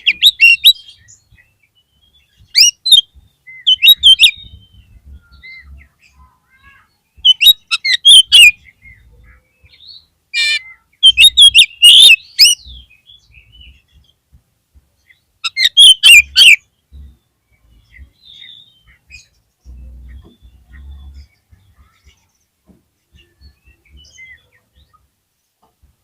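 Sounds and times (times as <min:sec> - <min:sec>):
bird singing quick varied song: 0:00.0 - 0:14.2, 0:15.0 - 0:25.0.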